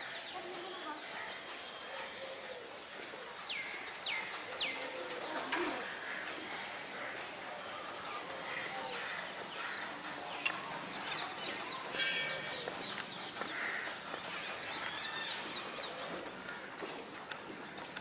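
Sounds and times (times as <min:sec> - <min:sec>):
wild birds chirping: 0:00.0 - 0:18.0.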